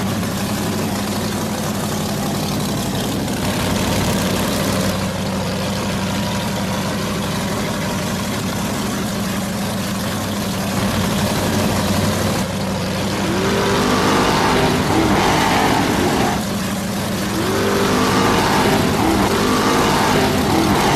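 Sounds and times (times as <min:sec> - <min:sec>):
engine running and revving: 0:00.0 - 0:20.9.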